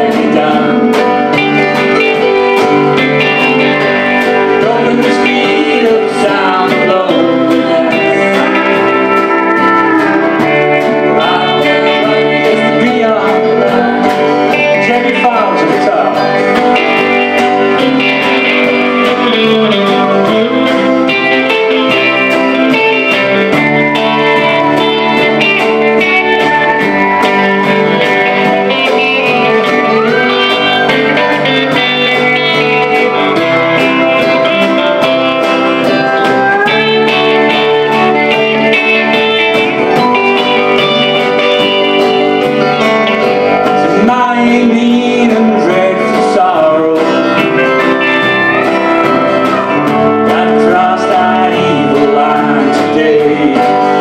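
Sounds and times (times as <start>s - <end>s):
acoustic guitar: 0.0s - 54.0s
bass guitar: 0.0s - 54.0s
drums: 0.0s - 54.0s
electric guitar lead lines: 0.0s - 54.0s.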